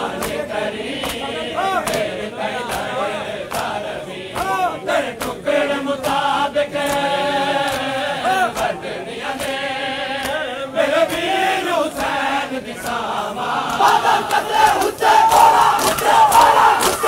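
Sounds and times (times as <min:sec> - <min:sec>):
men chanting a lament: 0:00.0 - 0:17.0
hands slapping bare chests: 0:00.1 - 0:05.4, 0:06.0 - 0:17.0.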